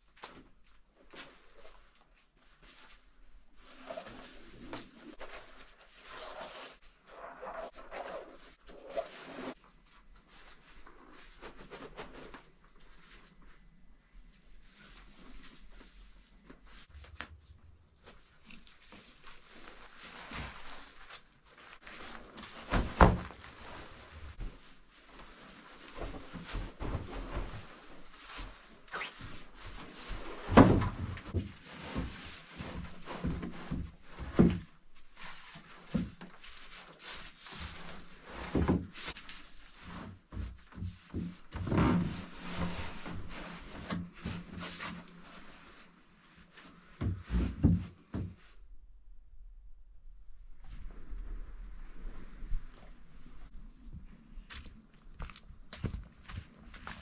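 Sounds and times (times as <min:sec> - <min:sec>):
straw rope and canvas rustling: 0:00.0 - 0:48.7.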